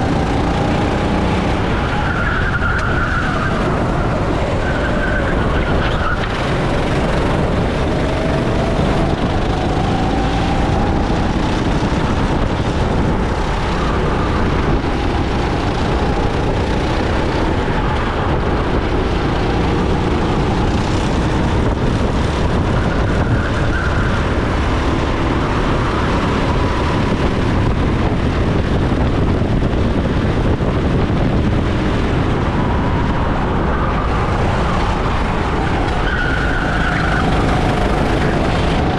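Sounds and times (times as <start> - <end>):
go-kart engine racing: 0.0 - 38.9
loud rush of noise: 0.0 - 38.9.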